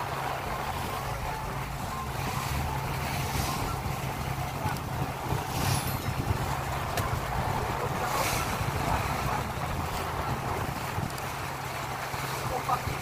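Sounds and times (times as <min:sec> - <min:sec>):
boat engine running: 0:00.0 - 0:13.0
water rushing along hull: 0:00.0 - 0:13.0.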